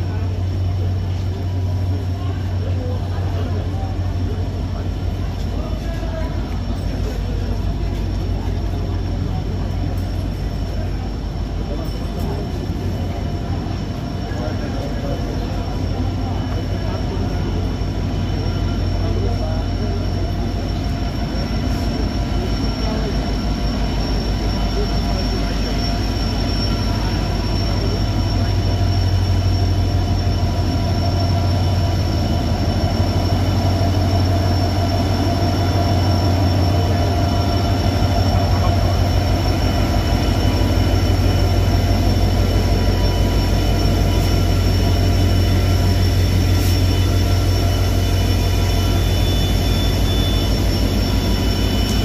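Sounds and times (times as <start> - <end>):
diesel locomotive engine throbbing: 0.0 - 52.0
thin high whine: 0.0 - 52.0.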